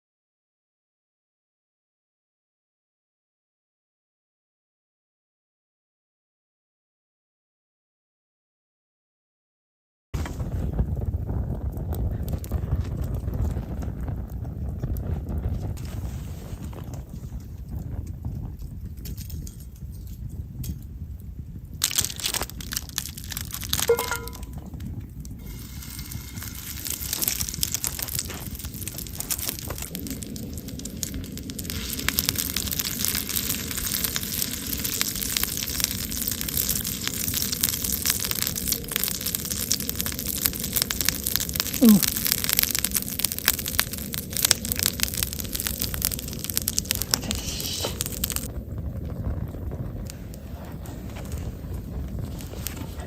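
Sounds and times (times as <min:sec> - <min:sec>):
fire hissing: 0:10.2 - 0:53.0
wood fire crackling and popping: 0:10.2 - 0:53.0.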